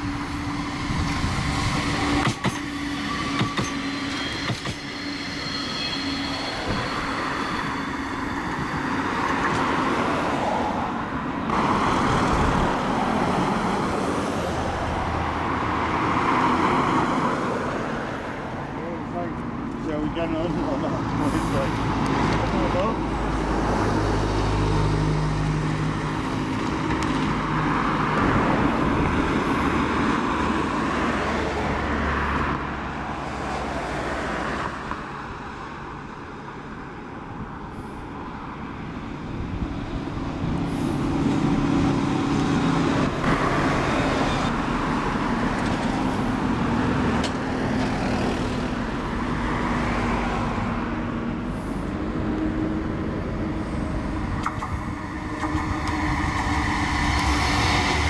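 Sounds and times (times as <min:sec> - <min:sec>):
buses passing: 0:00.0 - 0:58.0
road traffic passing: 0:00.0 - 0:58.0.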